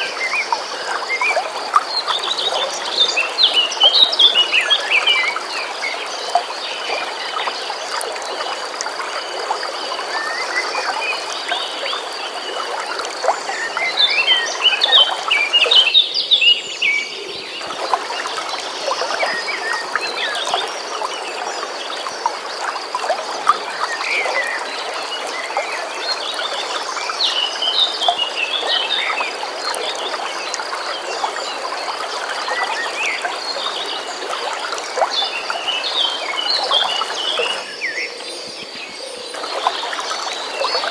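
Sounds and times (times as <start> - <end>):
flowing stream: 0.0 - 40.9.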